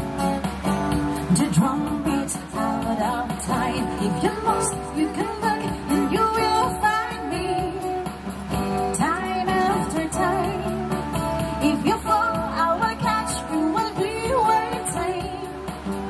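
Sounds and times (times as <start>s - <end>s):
instrumental accompaniment: 0.0s - 16.0s
woman singing into microphone: 0.9s - 16.0s.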